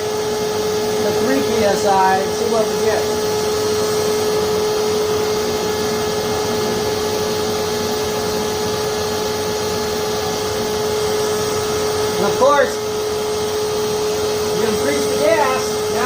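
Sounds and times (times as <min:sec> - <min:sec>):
blower motor hum: 0:00.0 - 0:16.0
forge burner roaring: 0:00.0 - 0:16.0.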